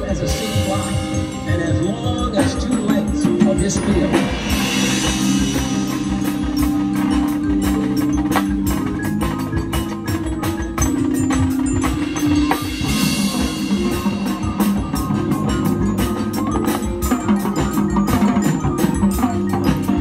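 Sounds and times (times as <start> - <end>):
marching band playing: 0.0 - 20.0
marimbas striking rapid notes: 0.0 - 20.0.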